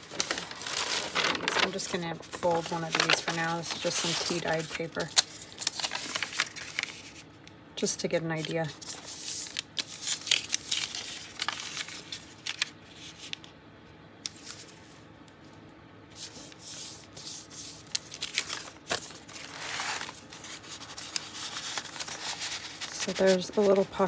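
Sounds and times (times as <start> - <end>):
paper rustling and creasing: 0.0 - 7.3, 8.4 - 13.5, 16.2 - 24.0.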